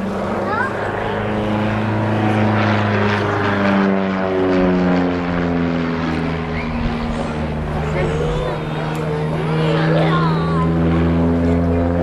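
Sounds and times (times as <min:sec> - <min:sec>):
propeller plane droning past: 0:00.0 - 0:12.0.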